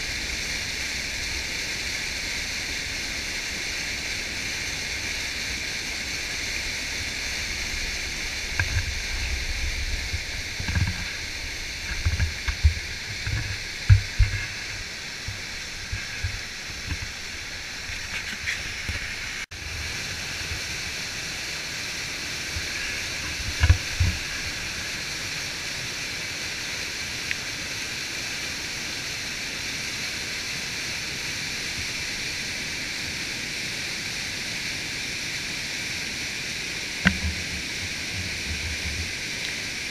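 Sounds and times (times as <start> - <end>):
white water rushing: 0.0 - 39.9.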